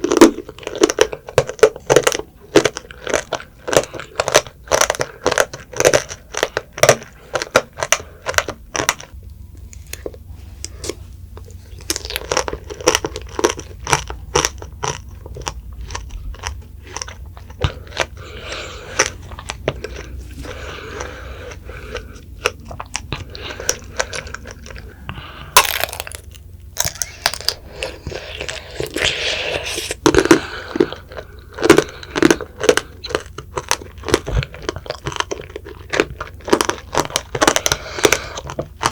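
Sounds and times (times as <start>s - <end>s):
crunching candied fruit: 0.0s - 38.9s.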